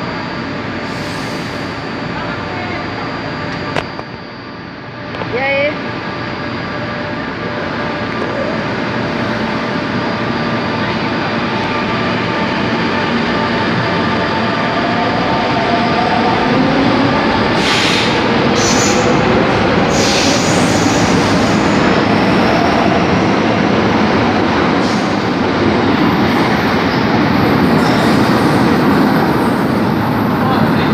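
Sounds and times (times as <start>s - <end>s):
train wheels rumbling on track: 5.0s - 30.9s.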